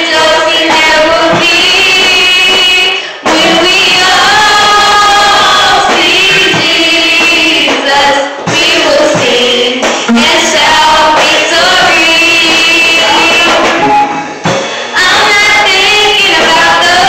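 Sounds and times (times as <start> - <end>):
gospel choir singing with music: 0.0 - 17.0.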